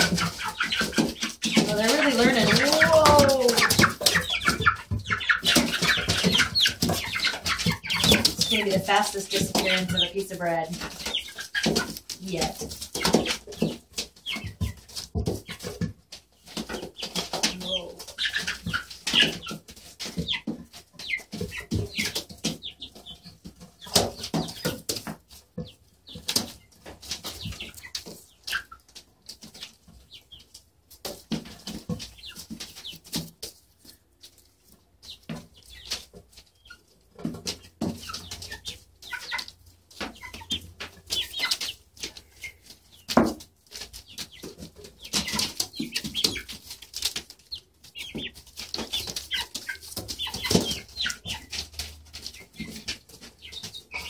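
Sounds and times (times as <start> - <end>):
hens clucking: 0.0 - 54.0
hens pecking: 0.0 - 54.0.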